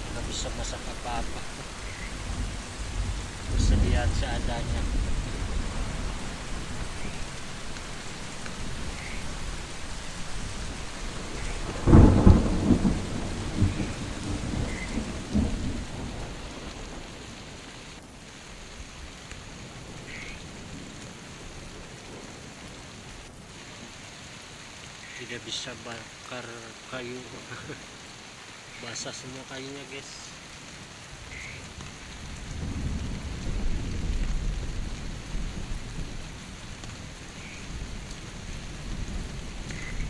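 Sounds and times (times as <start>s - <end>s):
thunderclap rumbling: 0.0s - 23.5s, 31.2s - 40.0s
heavy rain: 0.0s - 40.0s.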